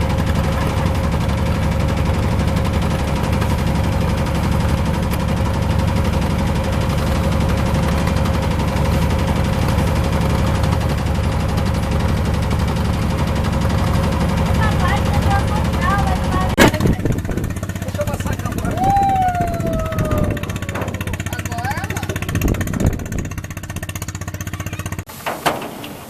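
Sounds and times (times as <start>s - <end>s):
boat engine running: 0.0s - 25.1s.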